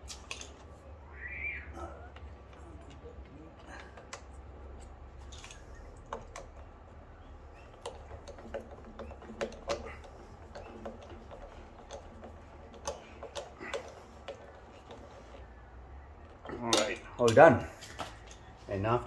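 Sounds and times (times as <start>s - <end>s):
small metal parts clicking: 0.0s - 0.7s, 2.4s - 15.5s, 16.3s - 18.6s.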